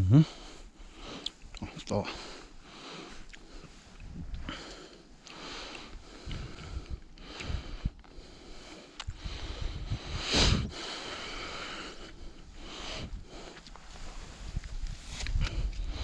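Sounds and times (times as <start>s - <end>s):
man breathing through nose: 0.2s - 1.4s, 2.1s - 16.0s.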